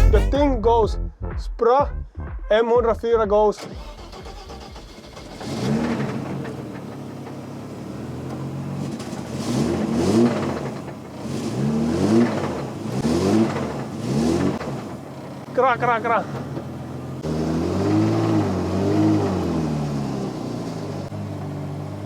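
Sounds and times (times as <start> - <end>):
car engine revving: 3.6 - 22.0.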